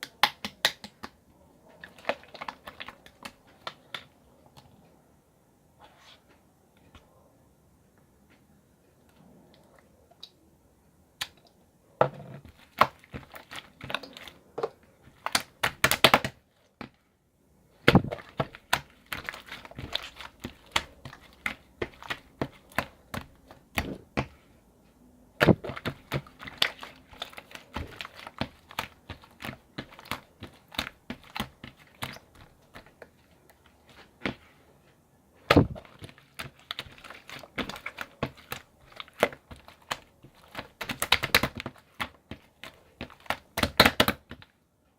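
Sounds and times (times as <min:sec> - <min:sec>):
clicks taps and crinkling: 0:00.0 - 0:05.0, 0:11.2 - 0:17.1, 0:17.8 - 0:44.6.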